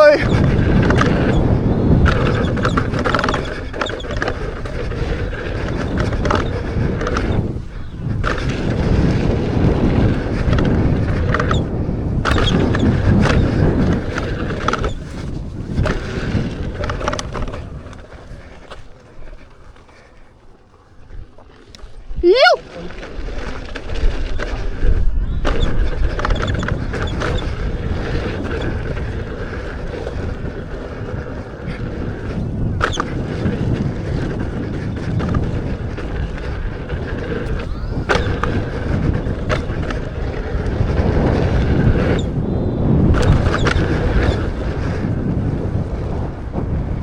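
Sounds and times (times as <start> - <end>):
tyre rumble on dirt trail: 0.0 - 47.0
wind buffeting microphone: 0.0 - 47.0.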